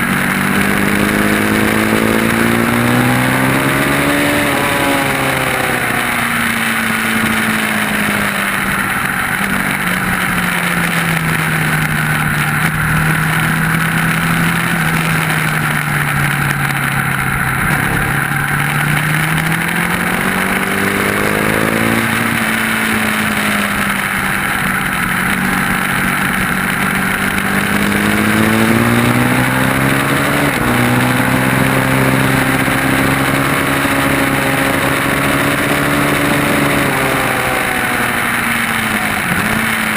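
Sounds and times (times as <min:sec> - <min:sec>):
motorcycle engine at speed: 0:00.0 - 0:39.9
wind noise: 0:00.0 - 0:39.9.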